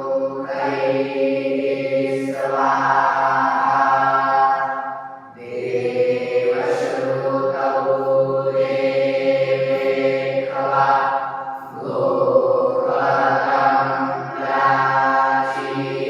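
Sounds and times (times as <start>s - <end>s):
voices chanting: 0.0s - 16.0s.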